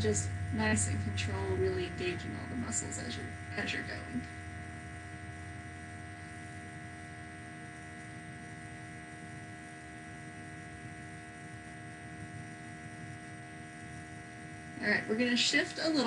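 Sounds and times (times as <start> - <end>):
electrical hum and buzz: 0.0 - 16.0
low background rumble: 0.0 - 16.0.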